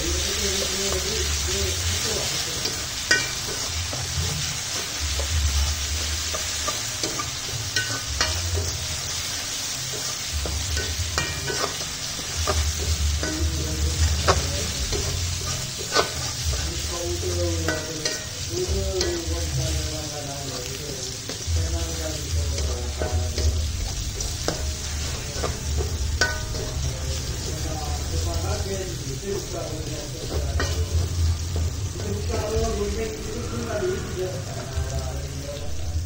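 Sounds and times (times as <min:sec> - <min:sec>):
spatula scraping wok: 0:00.0 - 0:35.0
spice paste sizzling in oil: 0:00.0 - 0:36.0.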